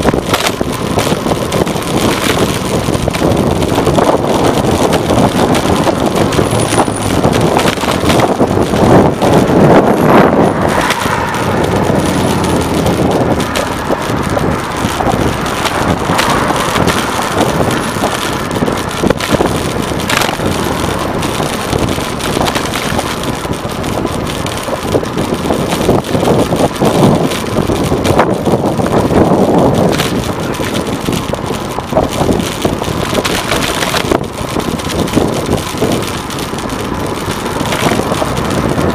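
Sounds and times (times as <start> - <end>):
bicycle road rumble and knocks: 0.0 - 38.9
wind rushing over microphone: 0.0 - 38.9.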